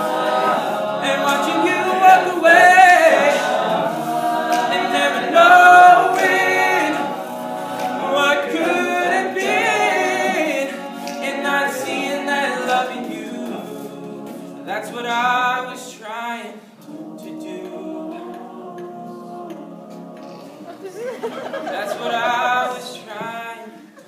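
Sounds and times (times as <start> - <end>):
male a cappella group singing: 0.0 - 23.9.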